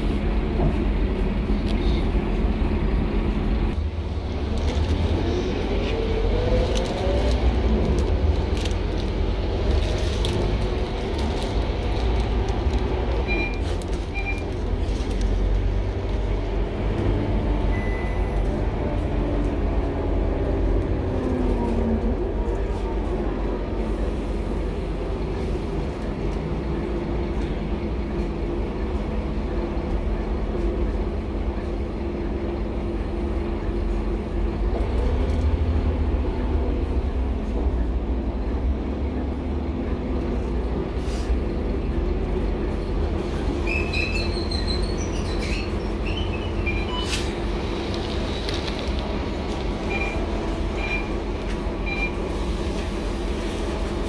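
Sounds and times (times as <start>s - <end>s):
bus engine rumble: 0.0s - 54.0s.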